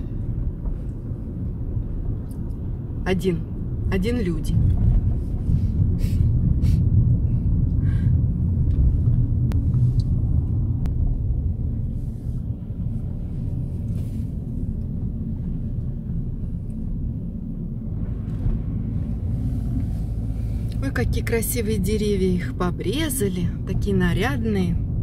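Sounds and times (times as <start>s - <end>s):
car engine rumble from inside: 0.0s - 25.0s.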